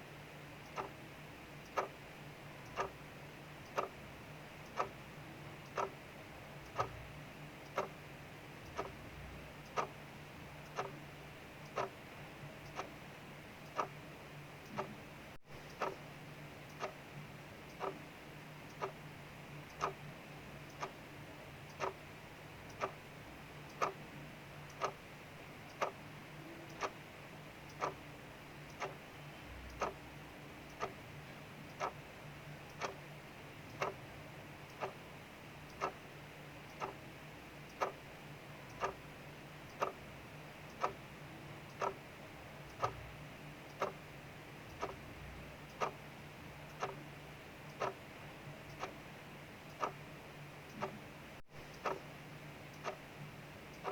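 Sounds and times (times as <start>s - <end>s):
clock ticking: 0.6s - 53.9s.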